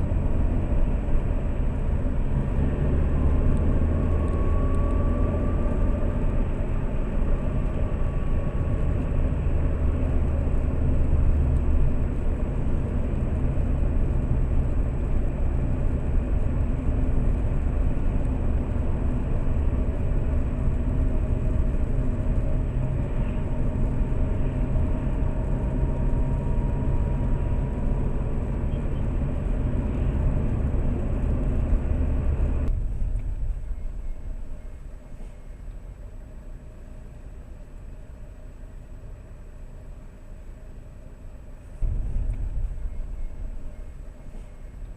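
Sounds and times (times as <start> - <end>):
car engine and tyre noise inside cabin: 0.0 - 44.9.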